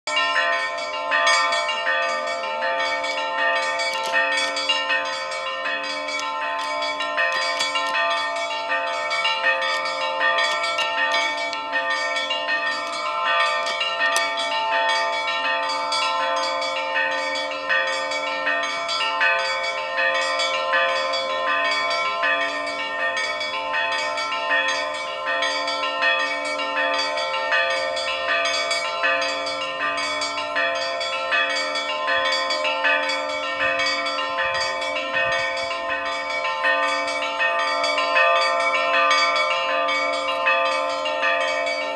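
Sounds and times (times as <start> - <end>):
large bells ringing steadily: 0.1 - 41.9
small church bells ringing fast: 0.1 - 41.9.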